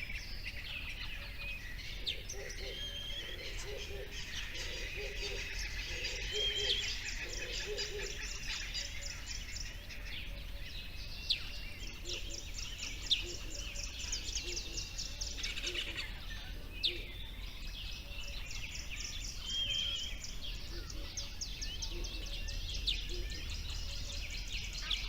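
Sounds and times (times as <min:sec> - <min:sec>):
chirring bird chorus: 0:00.0 - 0:25.0.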